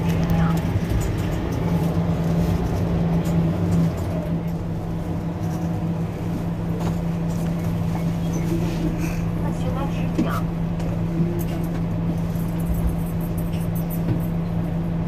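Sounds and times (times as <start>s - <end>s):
bus idling low hum: 0.0s - 15.0s.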